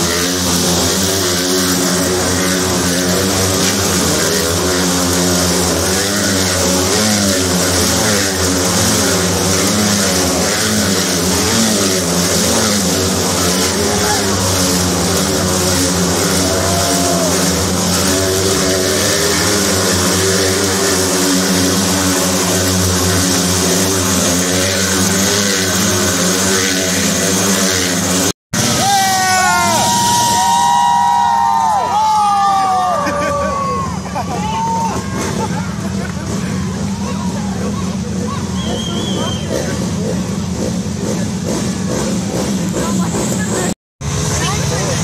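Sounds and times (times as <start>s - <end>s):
motorcycle engines droning: 0.0s - 45.0s.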